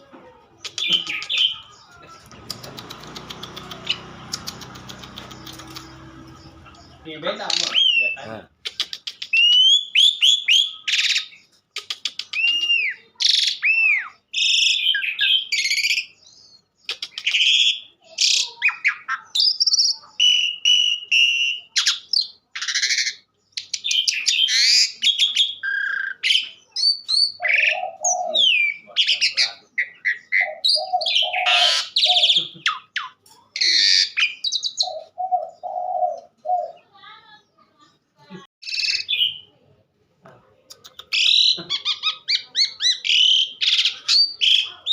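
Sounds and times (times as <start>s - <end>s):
starling singing: 0.6s - 37.5s, 38.6s - 39.6s, 40.7s - 44.9s.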